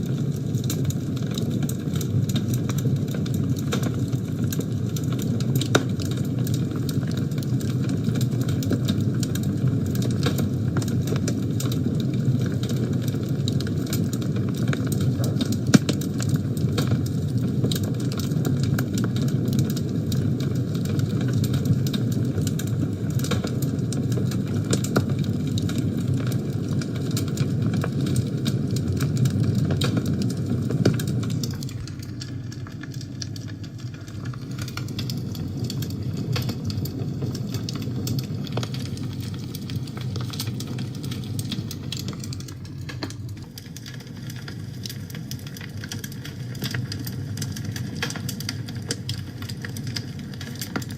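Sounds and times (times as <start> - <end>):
fire crackling and popping: 0.0 - 50.9
fire rushing: 0.0 - 50.9.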